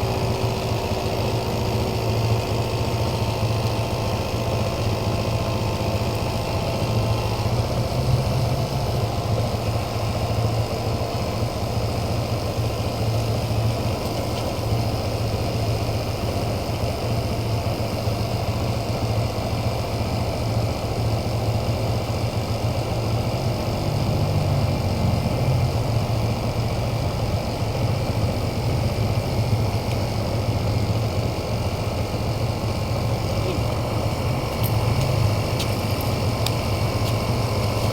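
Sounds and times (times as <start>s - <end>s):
steady mechanical hum: 0.0s - 37.9s.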